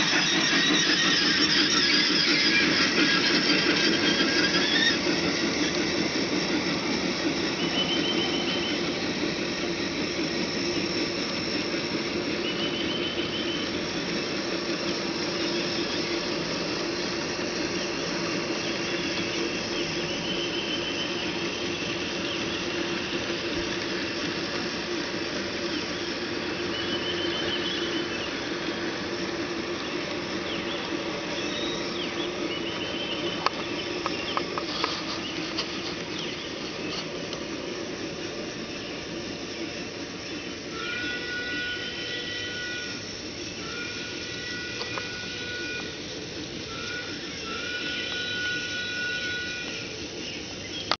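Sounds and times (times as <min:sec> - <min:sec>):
distant steam whistle: 0:00.0 - 0:37.0, 0:38.6 - 0:50.9
model train running hum: 0:00.0 - 0:50.9.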